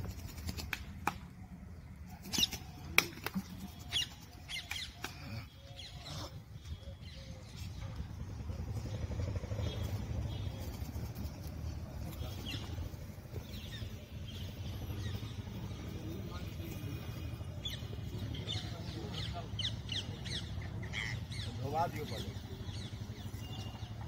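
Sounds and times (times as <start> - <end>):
birds chirping and squeaking: 2.1 - 2.9, 3.5 - 24.0.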